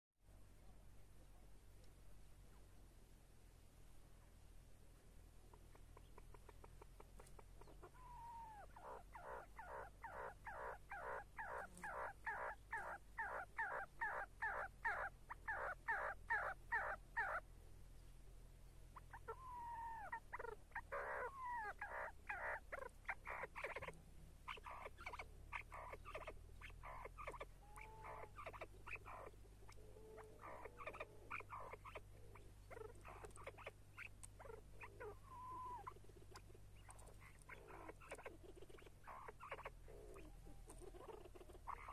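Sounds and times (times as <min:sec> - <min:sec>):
partridge clucking calls: 0:05.5 - 0:17.4, 0:19.0 - 0:41.9.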